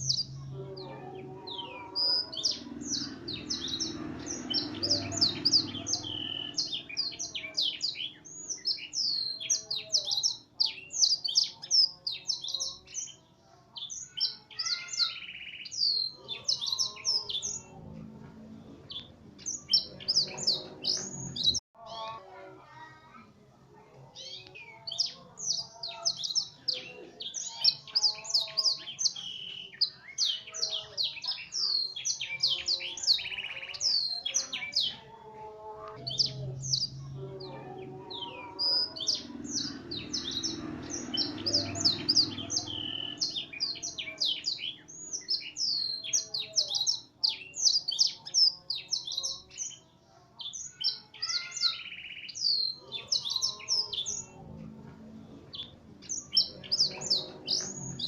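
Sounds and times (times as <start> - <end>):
canary singing trills: 0.0 - 22.9, 23.8 - 58.0.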